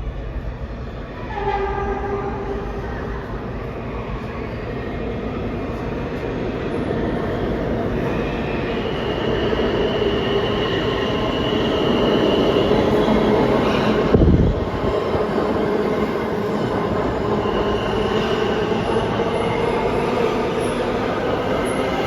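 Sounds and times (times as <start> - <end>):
subway train on rails: 0.0 - 22.0.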